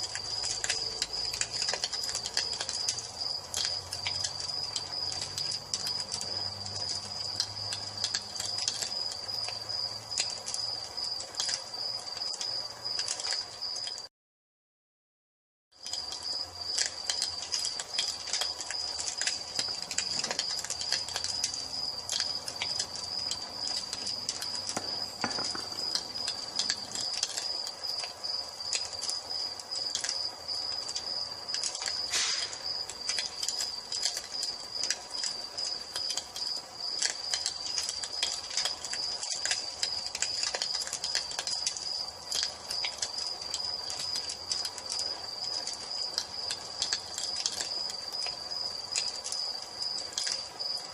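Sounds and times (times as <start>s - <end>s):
cricket trilling: 0.0s - 14.1s, 15.8s - 50.9s
wood fire crackling and popping: 0.0s - 14.1s, 15.8s - 50.9s.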